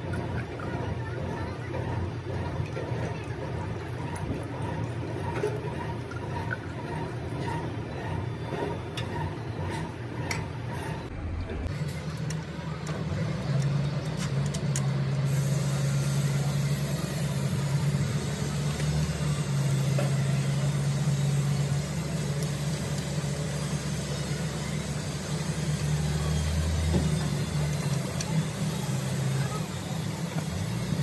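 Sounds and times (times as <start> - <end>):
engine droning: 0.0 - 31.0.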